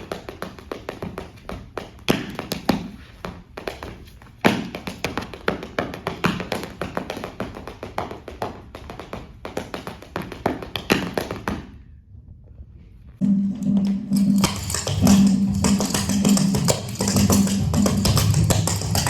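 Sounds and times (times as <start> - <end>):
tap dancing footwork: 0.0 - 11.8, 13.6 - 19.0.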